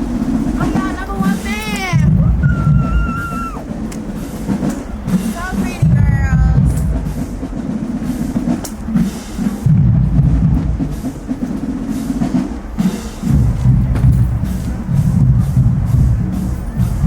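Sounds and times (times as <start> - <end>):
bass drums: 0.0 - 17.0
snare drum: 0.0 - 17.0.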